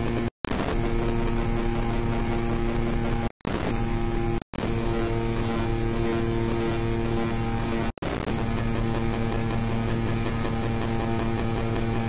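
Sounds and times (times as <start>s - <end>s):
looped audio buzzing drone: 0.0s - 12.0s.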